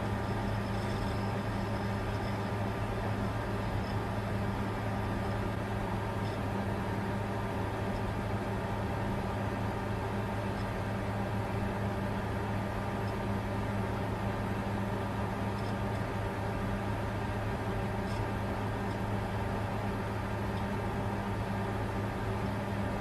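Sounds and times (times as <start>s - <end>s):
computer cooling fans whirring: 0.0s - 23.0s.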